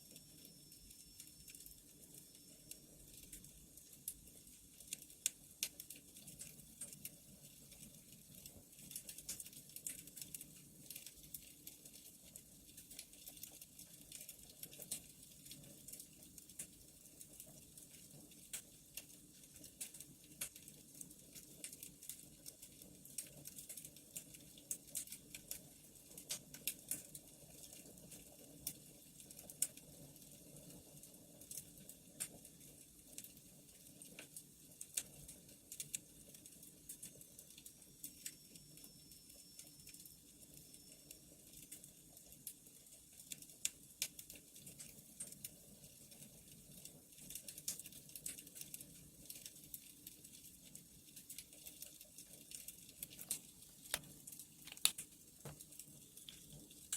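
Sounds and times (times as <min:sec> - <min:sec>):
wood fire crackling: 0:01.2 - 0:56.9.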